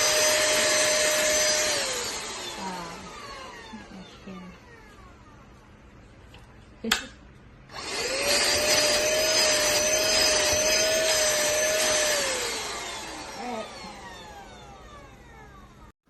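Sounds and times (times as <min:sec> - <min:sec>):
handheld vacuum cleaner whining: 0:00.0 - 0:05.4, 0:07.7 - 0:16.0.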